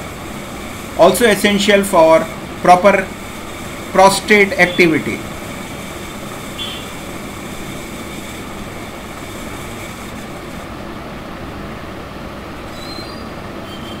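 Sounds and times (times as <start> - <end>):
room noise hiss: 0.0 - 14.0.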